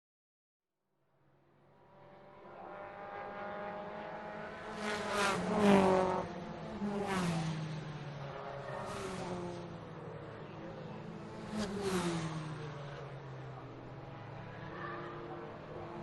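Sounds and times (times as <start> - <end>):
race cars passing at full throttle: 1.3 - 16.0.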